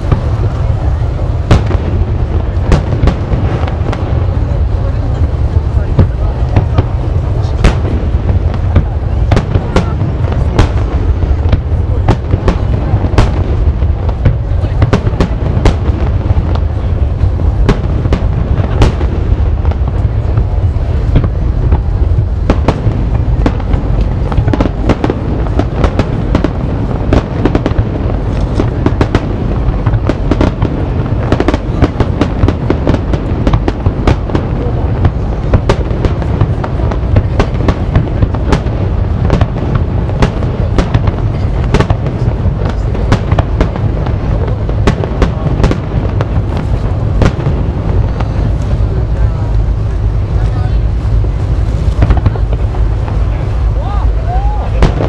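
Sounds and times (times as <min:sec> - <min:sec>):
continuous low rumble: 0:00.0 - 0:55.0
fireworks bangs and crackles: 0:00.0 - 0:55.0.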